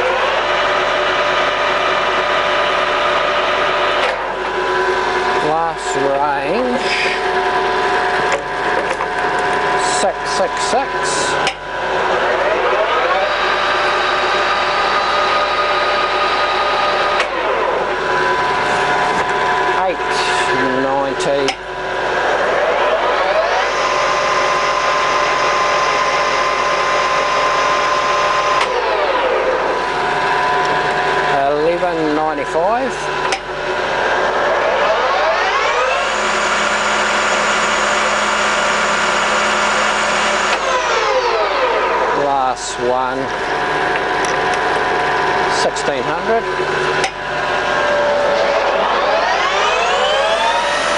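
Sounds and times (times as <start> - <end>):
lathe gear whine: 0.0 - 50.9.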